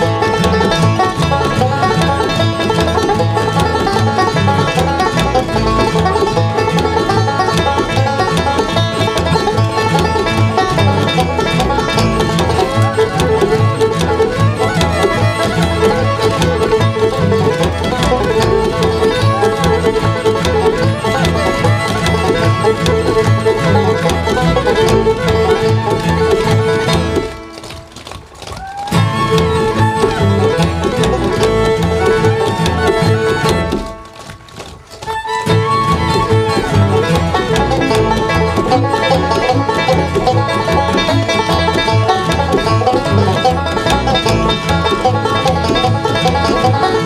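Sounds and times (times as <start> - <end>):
bluegrass band playing: 0.0 - 47.0
clogging shoes tapping: 0.0 - 47.0.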